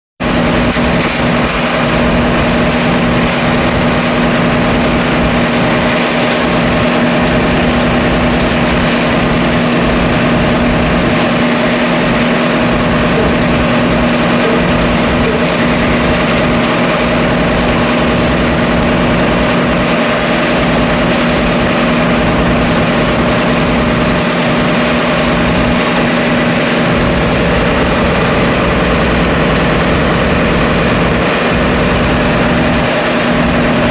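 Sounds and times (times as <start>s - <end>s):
machinery humming: 0.2s - 33.9s.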